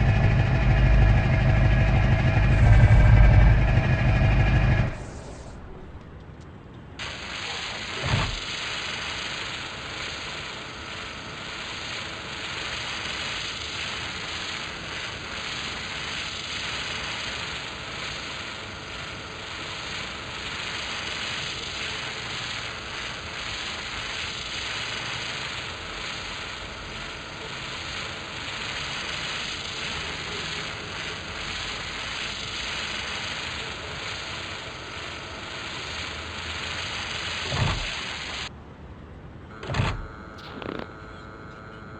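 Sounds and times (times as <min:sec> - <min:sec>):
engine running: 0:00.0 - 0:38.5, 0:39.5 - 0:41.9.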